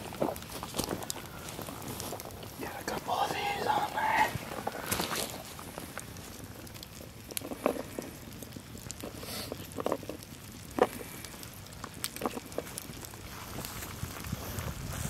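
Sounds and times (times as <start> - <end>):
campfire background: 0.0 - 15.0.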